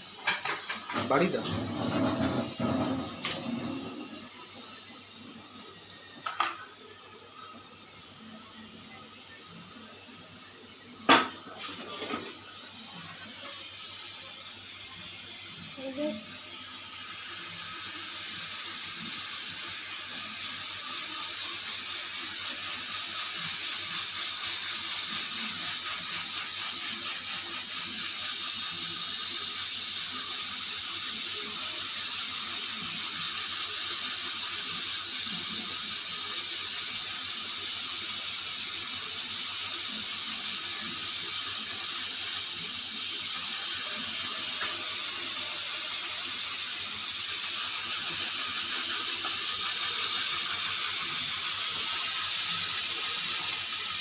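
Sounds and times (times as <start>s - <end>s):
pressure cooker steam hissing: 0.0s - 54.0s.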